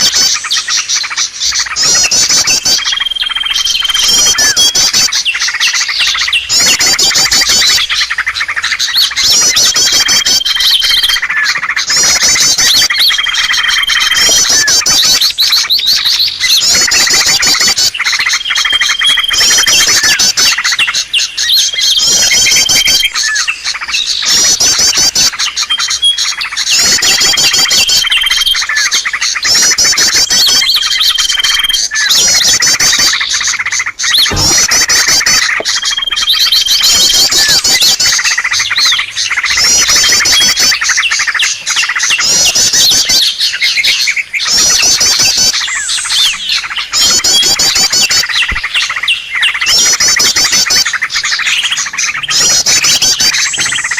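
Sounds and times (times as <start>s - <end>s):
small birds chirping and twittering: 0.0s - 53.9s.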